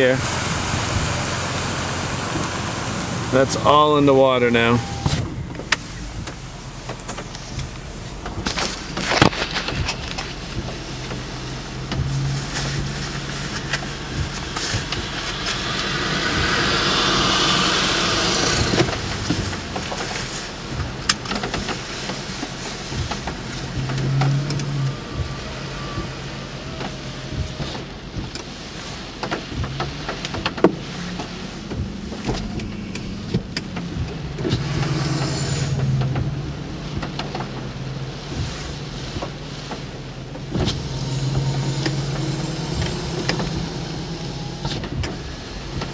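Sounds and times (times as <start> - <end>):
car engine idling hum: 0.0 - 45.9
rushing noise: 0.0 - 45.9.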